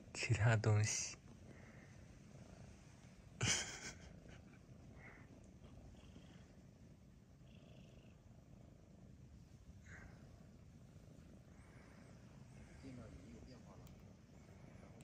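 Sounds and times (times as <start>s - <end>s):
cat purring softly: 0.0s - 15.0s.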